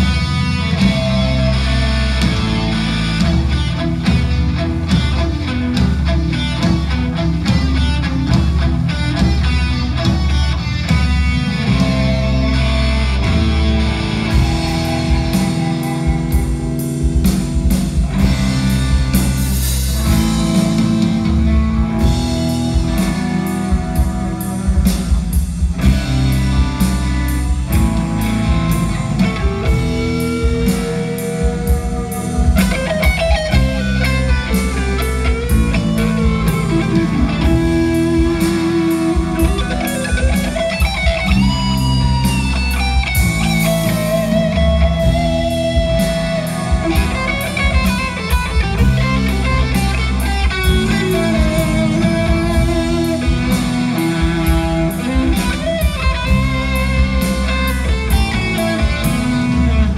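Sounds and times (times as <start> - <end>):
lead guitar with pitch bends: 0.0 - 59.9
metal band playing live: 0.0 - 59.9.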